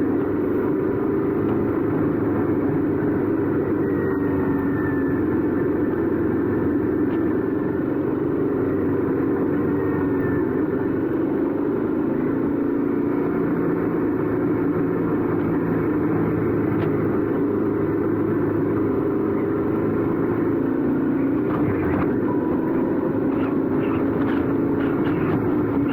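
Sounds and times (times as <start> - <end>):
motorcycle engine running steadily: 0.0 - 25.9.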